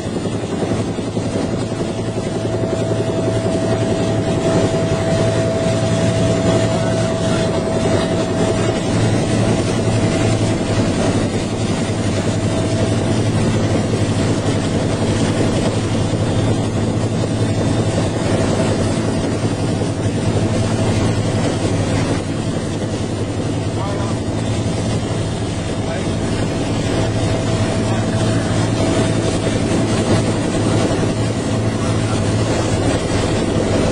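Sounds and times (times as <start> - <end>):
helicopter rotor and turbine din: 0.0 - 33.9
high whine: 0.0 - 33.9.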